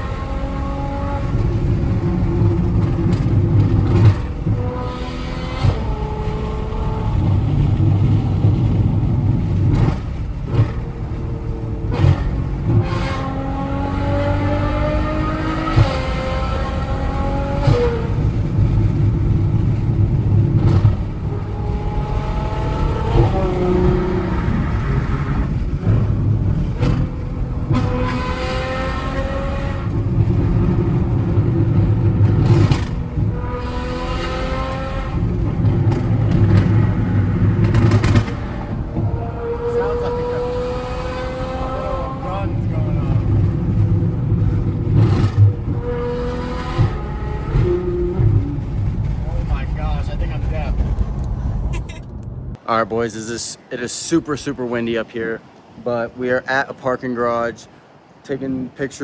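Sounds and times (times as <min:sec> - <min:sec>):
sharp exhaust cracks: 0:00.0 - 0:52.5
car engine revving through gears: 0:00.0 - 0:52.6.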